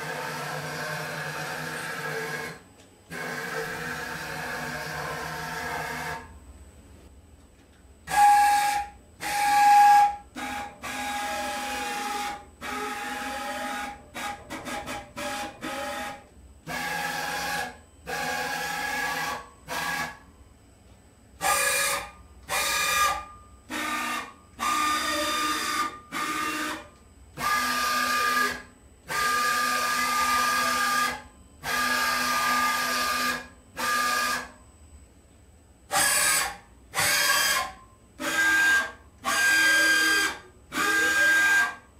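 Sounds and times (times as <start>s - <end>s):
cnc motor whine: 0.0s - 6.4s, 8.1s - 35.0s, 35.8s - 41.9s.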